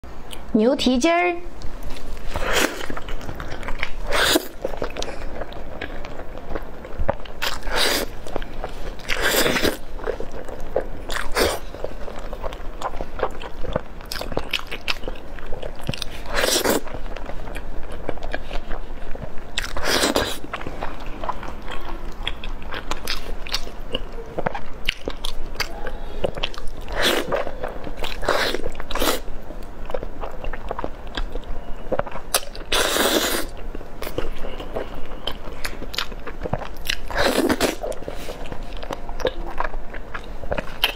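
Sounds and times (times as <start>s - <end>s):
chewing and mouth sounds: 1.6s - 40.9s.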